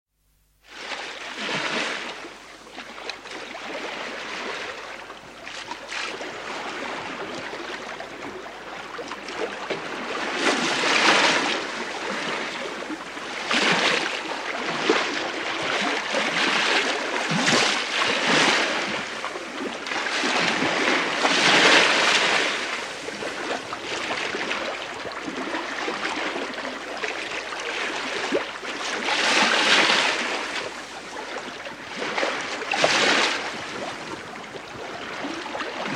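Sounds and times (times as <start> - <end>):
water rushing along hull: 0.6 - 35.9.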